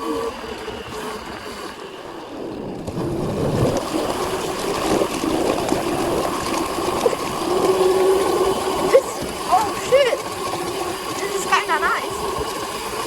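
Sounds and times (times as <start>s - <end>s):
electric motor whine: 0.0s - 13.0s
wind: 0.0s - 13.0s.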